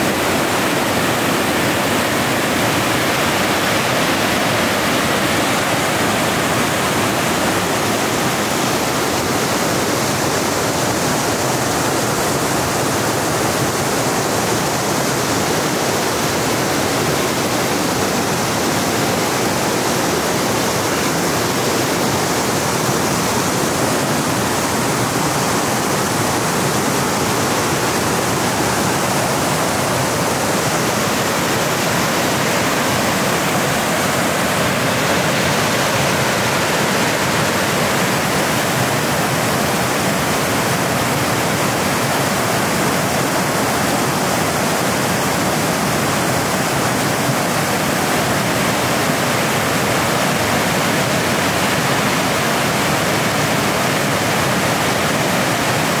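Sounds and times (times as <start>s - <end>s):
river cascade rushing: 0.0s - 56.0s.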